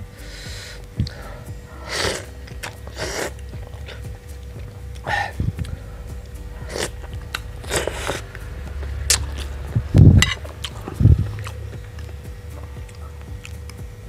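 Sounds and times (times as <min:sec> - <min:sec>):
low thumps: 0:00.0 - 0:14.0
wet chewing: 0:00.3 - 0:14.0
noodles slurped: 0:01.0 - 0:13.8.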